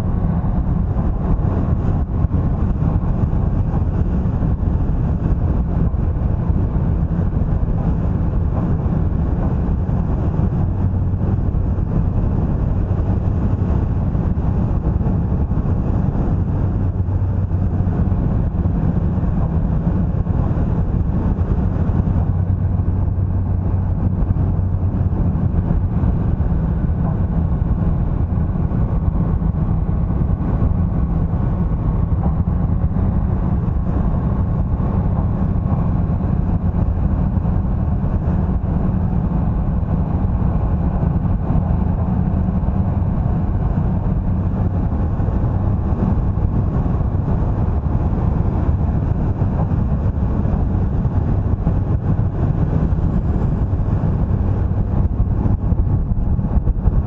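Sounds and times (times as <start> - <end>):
vehicle engine and tyre noise: 0.0 - 57.0.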